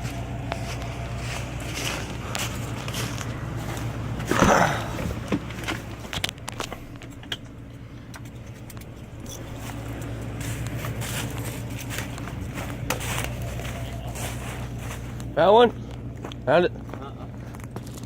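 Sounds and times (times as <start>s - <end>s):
footsteps on gravel: 0.0s - 7.0s, 8.8s - 18.0s
vehicle engine idling: 0.0s - 18.0s.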